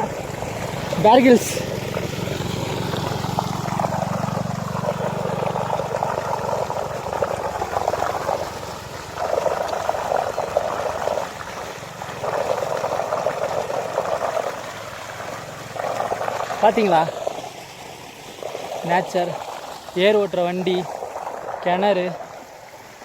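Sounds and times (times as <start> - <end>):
water splashing: 0.0 - 23.0.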